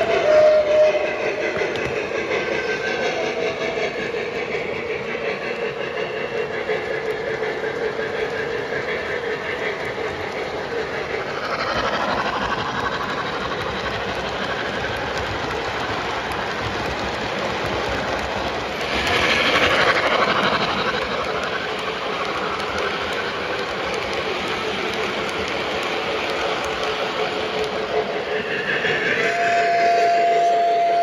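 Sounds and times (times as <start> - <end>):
model train wheels clicking on rails: 0.0 - 31.0.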